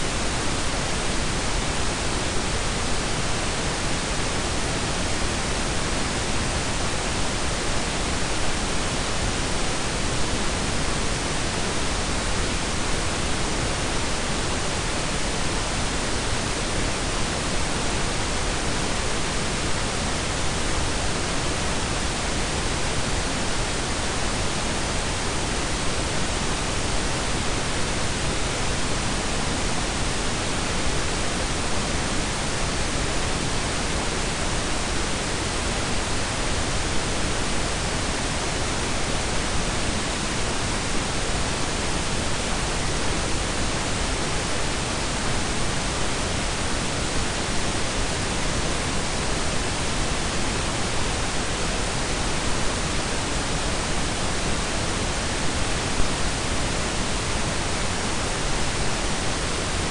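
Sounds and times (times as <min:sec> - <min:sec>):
steady noise hiss: 0:00.0 - 0:59.9.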